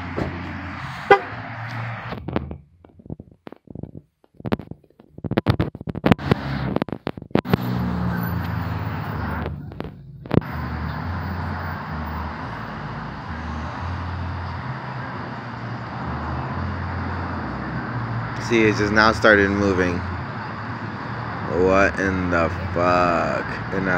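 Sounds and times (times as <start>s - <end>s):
road traffic: 0.0s - 23.9s.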